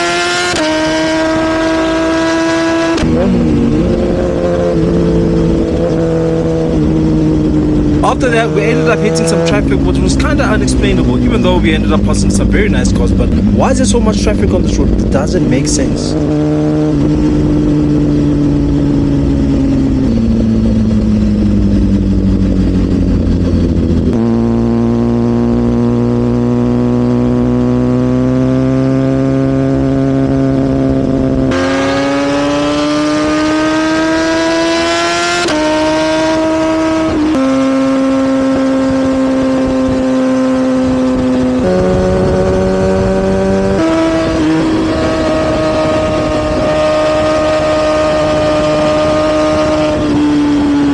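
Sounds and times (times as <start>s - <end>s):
motorcycle engine shifting gears: 0.0s - 50.9s.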